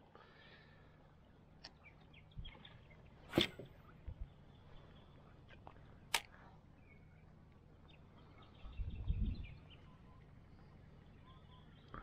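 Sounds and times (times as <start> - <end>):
bird chirps: 1.2 - 6.1, 6.7 - 12.0.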